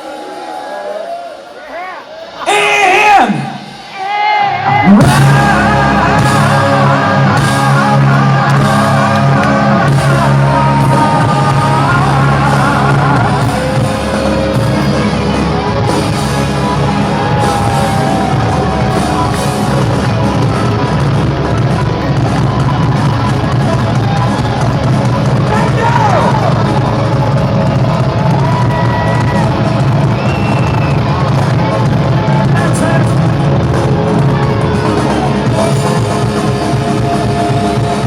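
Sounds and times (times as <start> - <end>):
crowd shouting: 0.0 - 38.0
live rock band playing: 2.2 - 38.0.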